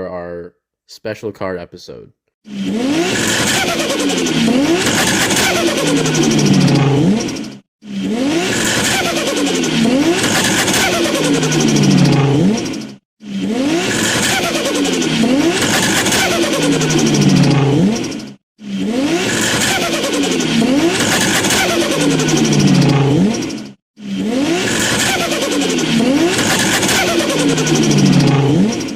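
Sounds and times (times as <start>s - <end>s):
car engine accelerating hard: 2.7s - 28.9s.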